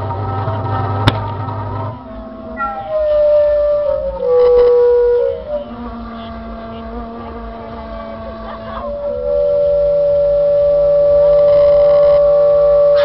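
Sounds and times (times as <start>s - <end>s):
train horns sounding a chord: 1.7s - 13.0s.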